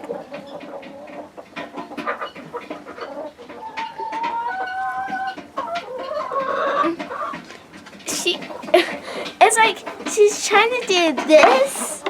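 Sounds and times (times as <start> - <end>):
hen clucking and calling: 0.0 - 12.0.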